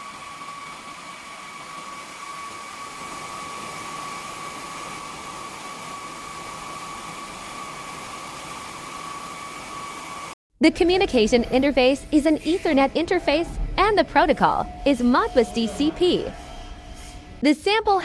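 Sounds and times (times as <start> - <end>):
cooling fans running: 0.0 - 17.4.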